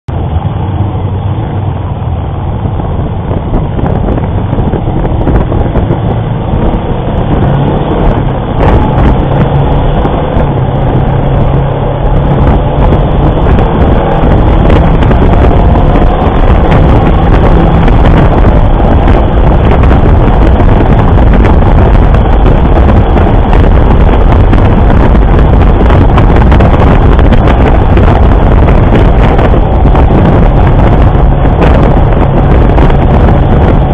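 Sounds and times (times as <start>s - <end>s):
wind noise on microphone: 0.1s - 33.9s
motorcycle engine running: 2.6s - 33.9s.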